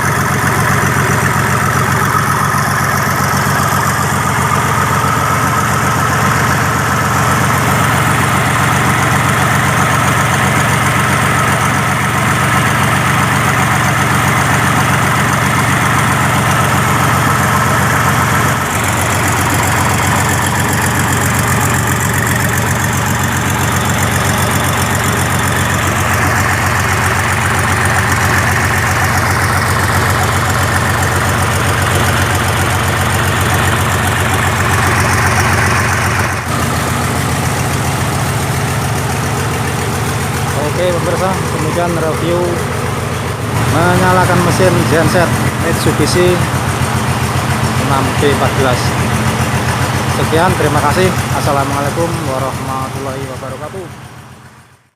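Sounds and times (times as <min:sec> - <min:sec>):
diesel generator engine running: 0:00.0 - 0:54.9.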